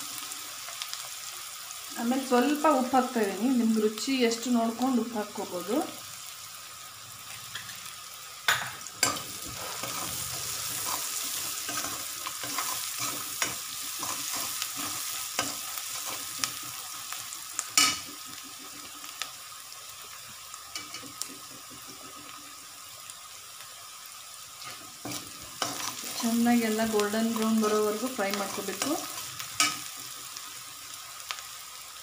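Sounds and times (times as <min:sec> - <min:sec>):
onions sizzling in oil: 0:00.0 - 0:32.0.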